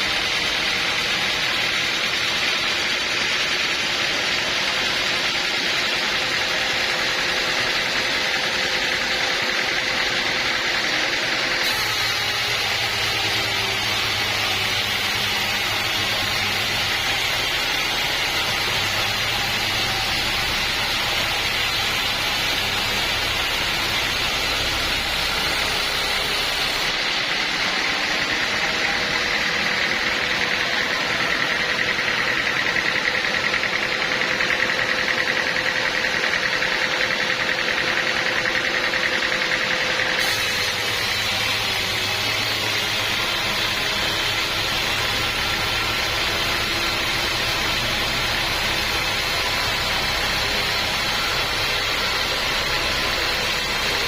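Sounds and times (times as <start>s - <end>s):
sawmill running: 0.0s - 54.0s.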